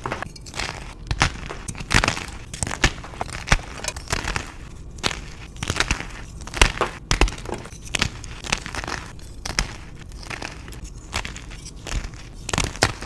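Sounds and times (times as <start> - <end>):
chalk crunching and crackling: 0.0 - 13.0.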